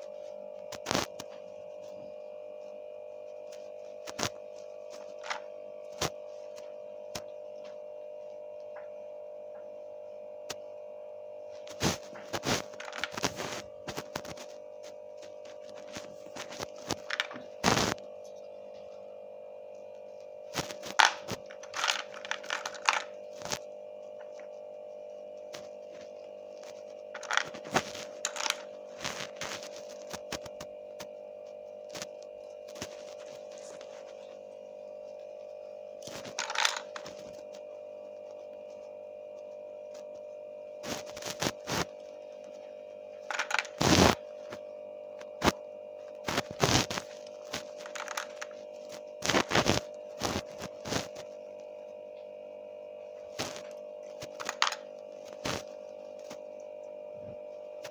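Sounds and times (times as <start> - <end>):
steady high hum: 0.0 - 57.9.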